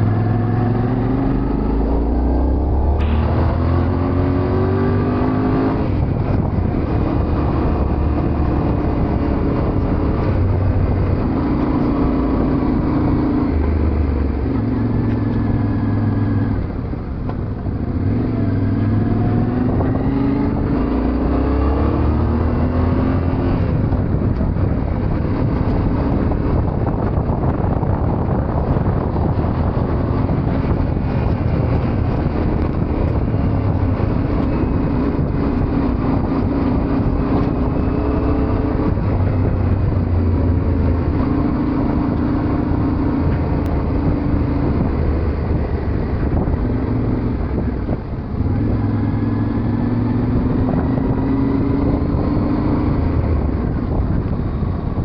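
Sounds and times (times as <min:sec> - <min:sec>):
motorcycle engine revving: 0:00.0 - 0:55.0
steady rushing noise: 0:00.0 - 0:55.0.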